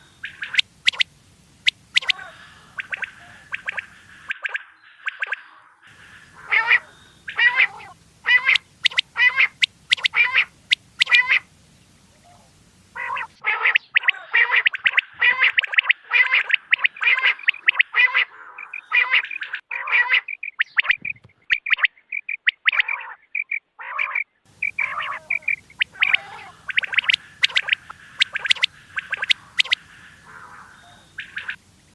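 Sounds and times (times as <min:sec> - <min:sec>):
quail calling: 0:00.0 - 0:31.9.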